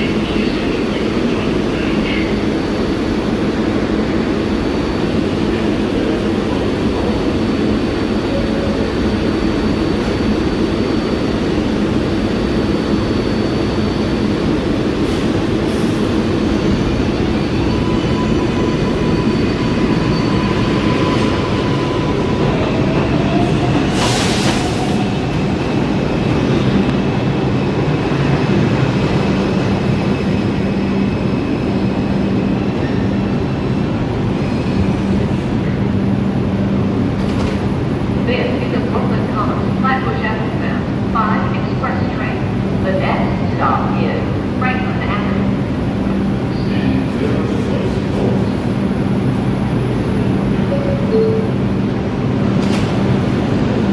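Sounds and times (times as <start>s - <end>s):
subway train rumbling: 0.0s - 53.9s.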